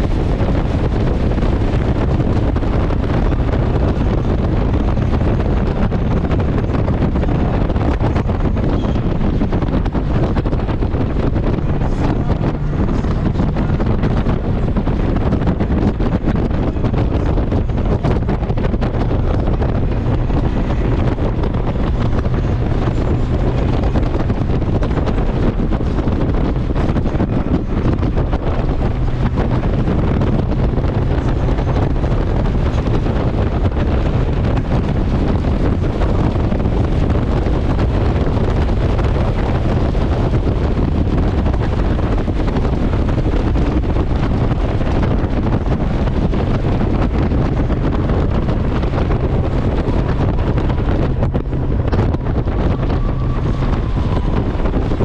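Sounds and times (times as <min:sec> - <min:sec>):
motorcycle engine and road noise: 0:00.0 - 0:55.0
wind rush on microphone: 0:00.0 - 0:55.0.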